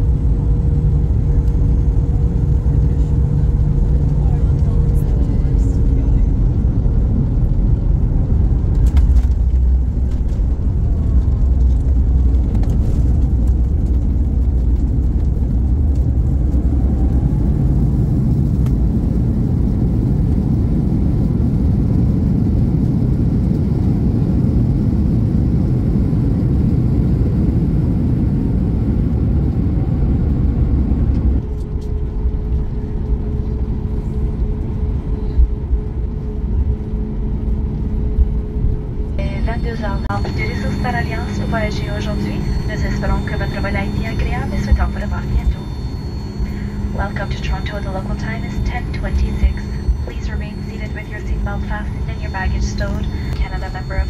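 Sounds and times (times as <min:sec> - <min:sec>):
faint whine: 0:00.0 - 0:54.0
jet cabin rumble: 0:00.0 - 0:54.0.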